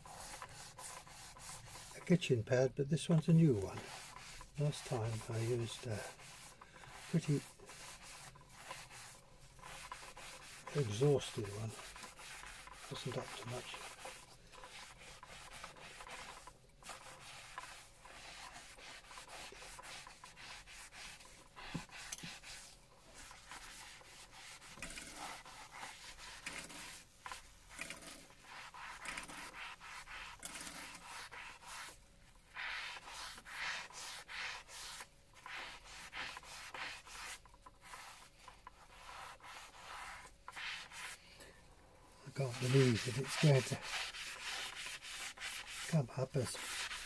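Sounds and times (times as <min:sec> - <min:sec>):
scouring pad scrubbing slate: 0:00.0 - 0:02.3, 0:03.0 - 0:41.2, 0:42.3 - 0:47.0.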